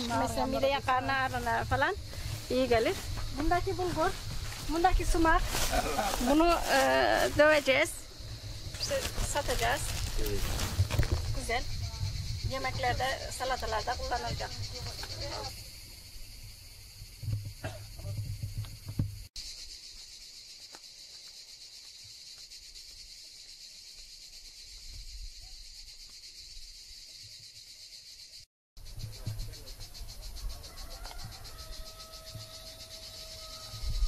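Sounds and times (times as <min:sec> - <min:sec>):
cicadas chorus: 0:00.0 - 0:34.0.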